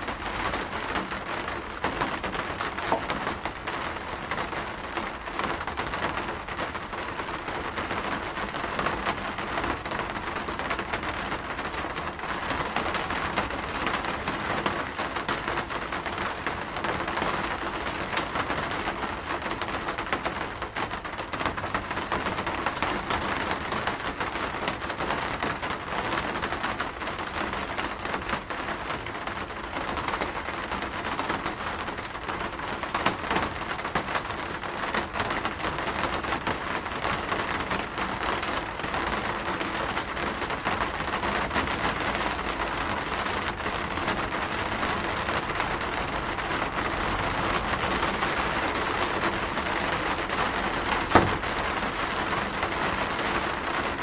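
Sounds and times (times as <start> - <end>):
steady rain hiss: 0.0 - 54.0
raindrops ticking: 7.6 - 54.0.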